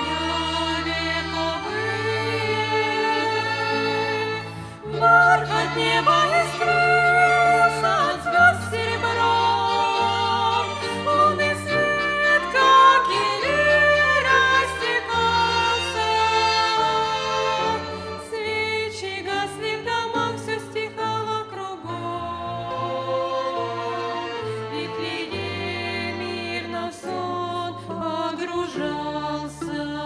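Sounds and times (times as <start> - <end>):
string ensemble: 0.0 - 30.0
women singing a slow song: 0.0 - 30.0.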